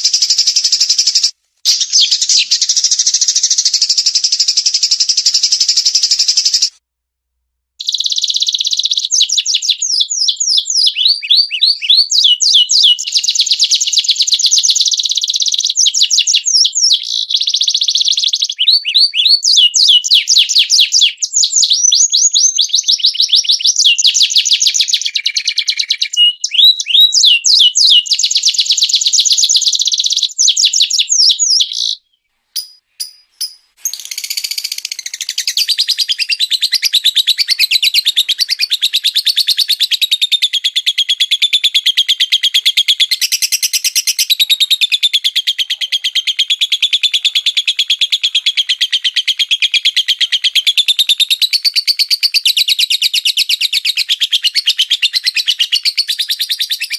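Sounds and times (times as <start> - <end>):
songbird singing fast trills: 0.0 - 6.8, 7.8 - 56.9.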